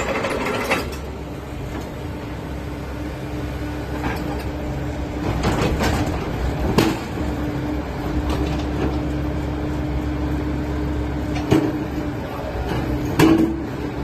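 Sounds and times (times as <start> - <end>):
excavator engine and hydraulic hum: 0.0 - 14.0.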